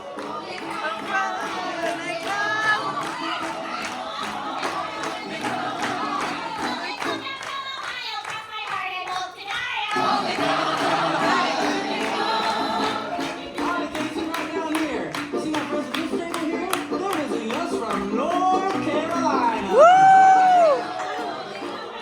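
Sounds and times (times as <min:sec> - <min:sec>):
performers singing with band: 0:00.0 - 0:07.7, 0:09.9 - 0:22.0
rhythmic clapping: 0:00.0 - 0:22.0.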